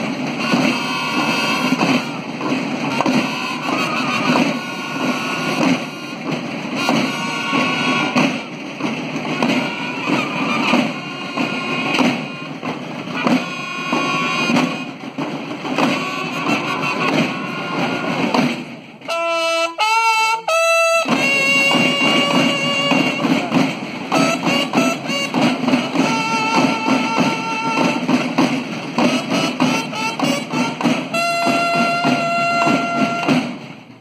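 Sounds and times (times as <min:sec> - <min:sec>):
bugles holding notes: 0:00.0 - 0:08.6, 0:09.2 - 0:18.4, 0:19.0 - 0:33.6
snare and bass drums march: 0:00.0 - 0:34.0.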